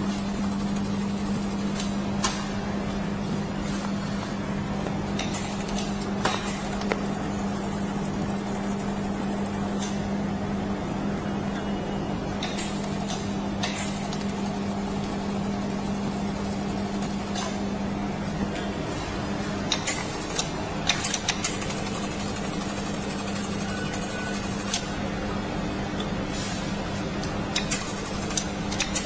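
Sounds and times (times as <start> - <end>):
electrical machine hum: 0.0 - 29.0.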